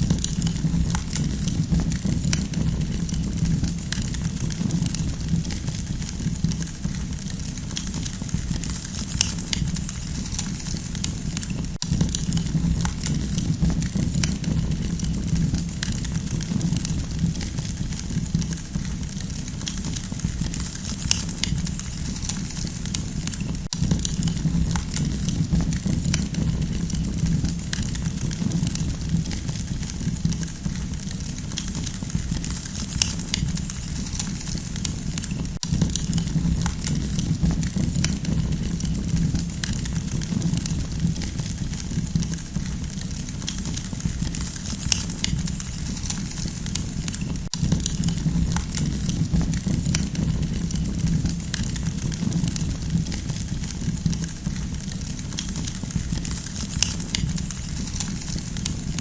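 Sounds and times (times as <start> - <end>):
campfire crackling: 0.0 - 59.0
low rumble of fire: 0.0 - 59.0.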